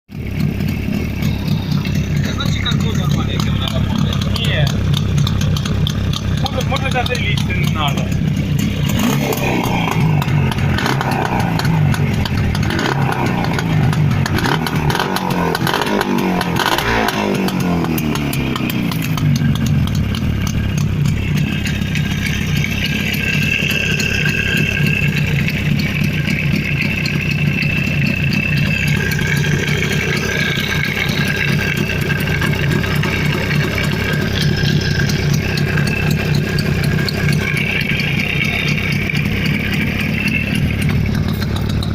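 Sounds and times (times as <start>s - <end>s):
motorcycle engine revving and idling: 0.1s - 41.9s.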